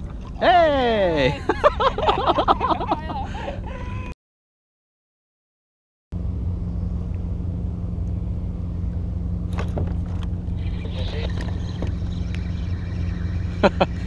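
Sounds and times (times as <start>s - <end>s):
low mechanical hum: 0.0s - 4.1s, 6.2s - 14.0s.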